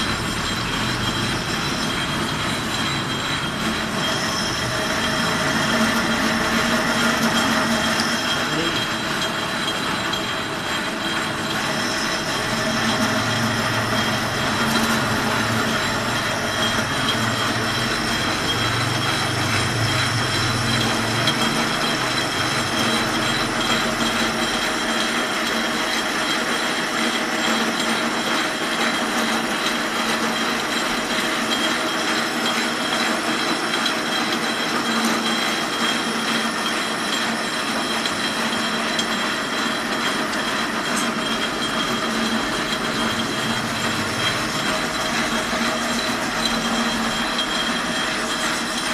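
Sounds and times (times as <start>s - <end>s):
metal lathe gearbox whine: 0.0s - 48.9s.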